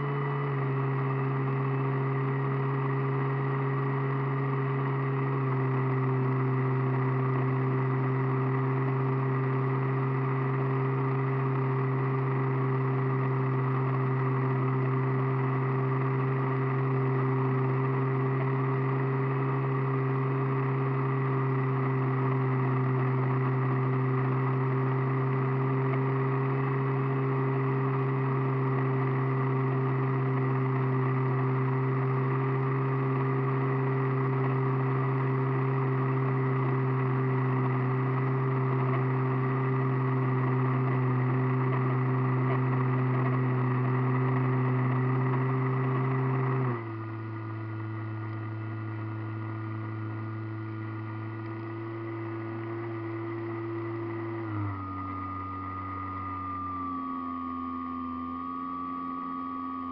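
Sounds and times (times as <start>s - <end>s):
model aircraft motor humming: 0.0s - 59.9s.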